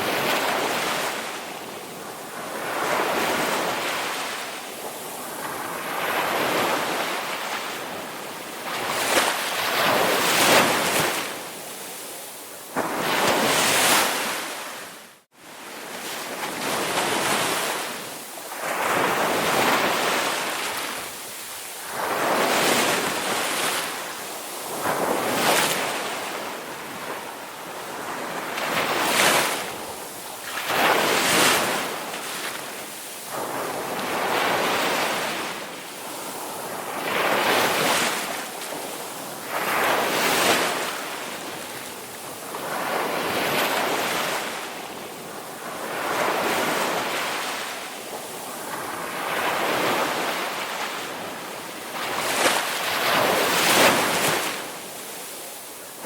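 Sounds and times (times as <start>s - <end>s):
waves breaking: 8.5s - 56.0s.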